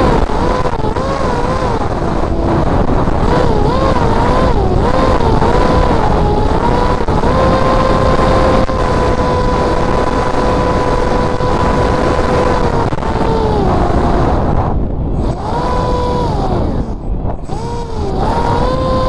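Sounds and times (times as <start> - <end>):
motor and propeller whining: 0.0 - 19.0
wind rush on microphone: 0.0 - 19.0.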